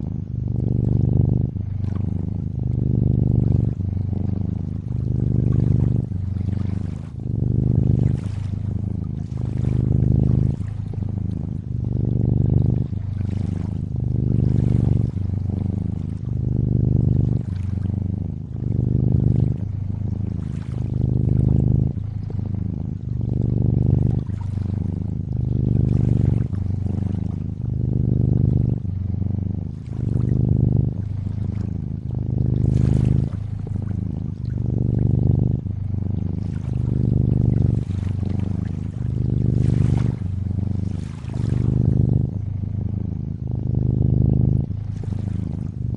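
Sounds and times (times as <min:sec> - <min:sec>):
cat purring: 0:00.0 - 0:45.9
water trickling softly: 0:01.3 - 0:35.7, 0:36.4 - 0:42.3.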